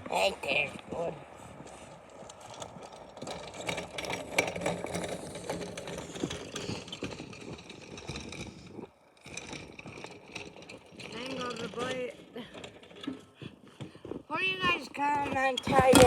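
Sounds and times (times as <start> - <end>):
plough gear rattling and knocking: 0.0 - 16.0
vehicle engine running: 0.0 - 16.0.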